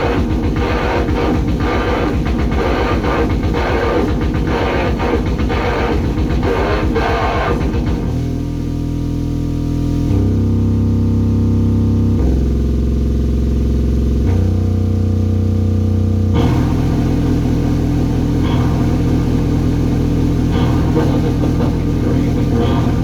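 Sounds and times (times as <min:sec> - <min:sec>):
distorted noise music: 0:00.0 - 0:23.0.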